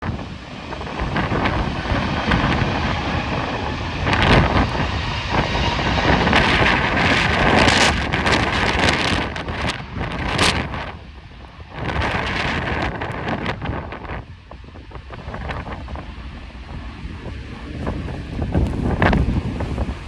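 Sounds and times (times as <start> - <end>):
jet engines whining: 0.0 - 20.0
wind buffeting microphone: 0.0 - 20.0.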